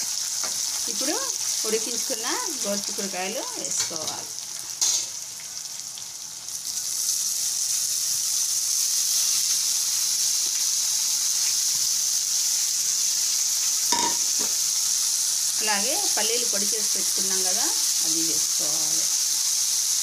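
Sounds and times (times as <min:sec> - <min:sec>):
beans sizzling in hot oil: 0:00.0 - 0:20.0.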